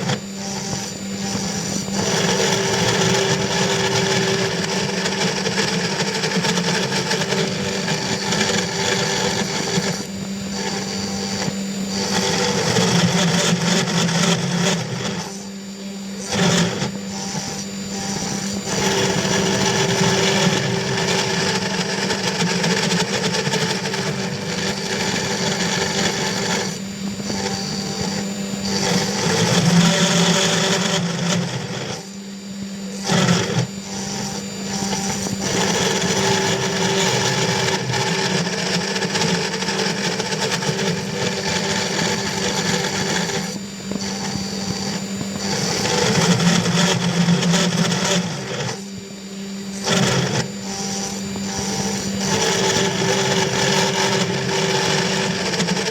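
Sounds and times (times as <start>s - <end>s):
router spindle milling metal: 0.0s - 32.2s, 32.8s - 55.9s.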